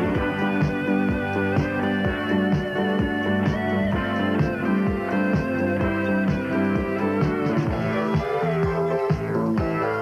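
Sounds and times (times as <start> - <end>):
instrumental music with steady beat: 0.0 - 10.0.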